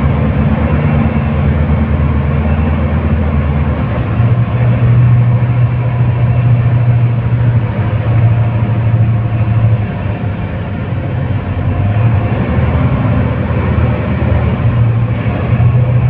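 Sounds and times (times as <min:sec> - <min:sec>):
bus diesel engine: 0:00.0 - 0:16.0
road noise: 0:00.0 - 0:16.0.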